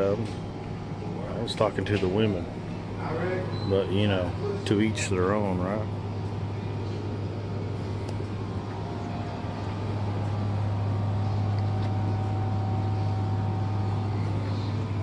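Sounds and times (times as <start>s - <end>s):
faint steady whine: 0.0s - 15.0s
low mechanical hum: 0.0s - 15.0s.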